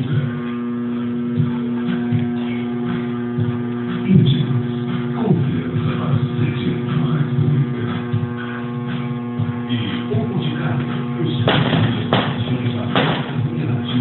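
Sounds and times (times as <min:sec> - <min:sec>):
electrical hum: 0:00.0 - 0:14.0
quiet background music: 0:00.0 - 0:14.0.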